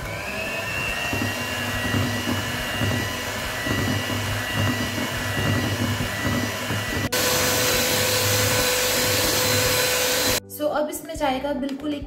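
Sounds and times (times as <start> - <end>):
batter churning rumble: 0.0 - 10.4
electric hand mixer whining: 0.0 - 10.4.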